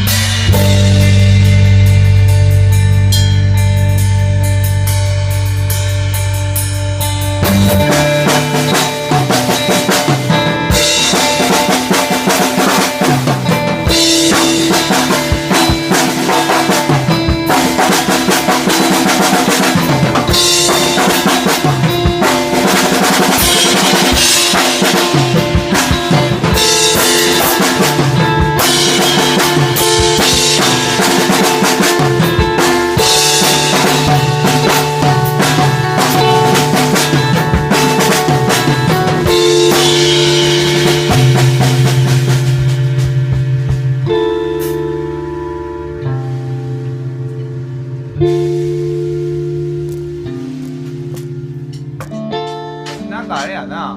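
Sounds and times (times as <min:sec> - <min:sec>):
band playing loud music: 0:00.0 - 0:53.9.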